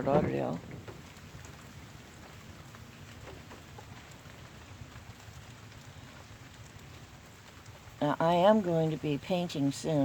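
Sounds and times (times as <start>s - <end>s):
light rain pattering: 0.0s - 10.0s
raindrops ticking: 0.0s - 10.0s.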